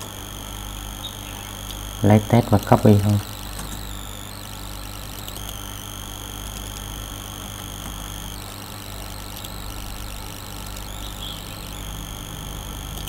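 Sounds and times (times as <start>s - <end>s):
electrical hum and hiss: 0.0s - 13.0s
high-pitched whine tones: 0.0s - 13.0s.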